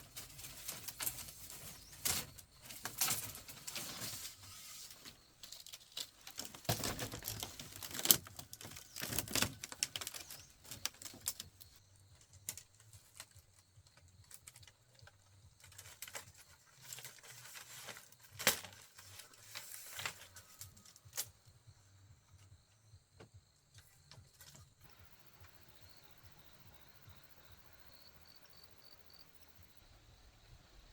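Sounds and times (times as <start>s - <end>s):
high insect chirr: 0.1s - 30.9s.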